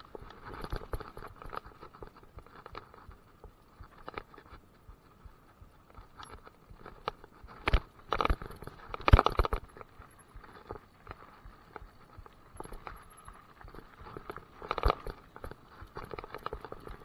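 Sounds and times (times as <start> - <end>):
bike rattling over rough trail: 0.0 - 17.0.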